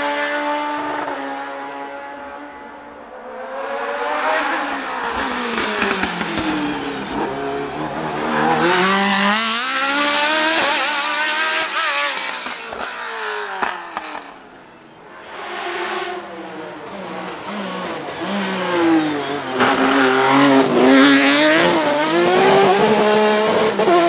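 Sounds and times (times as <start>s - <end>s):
race car engine accelerating past: 0.0s - 14.5s, 15.2s - 24.0s.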